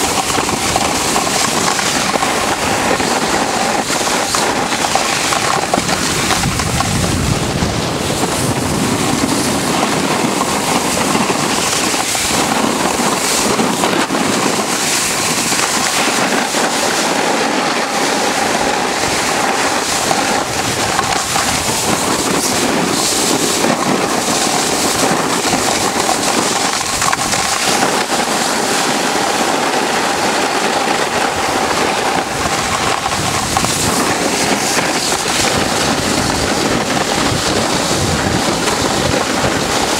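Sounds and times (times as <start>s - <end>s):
skis scraping icy snow: 0.0s - 39.9s
wind rushing on microphone: 0.0s - 39.9s.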